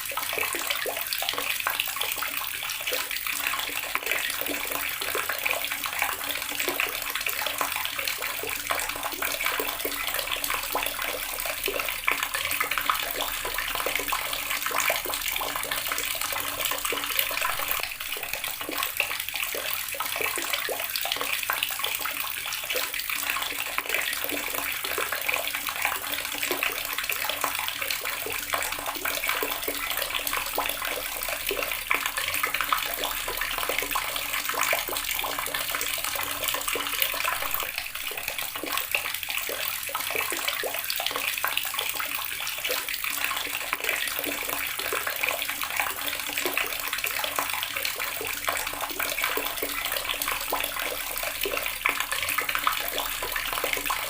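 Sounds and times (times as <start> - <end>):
tap water splashing into basin: 0.0 - 54.0.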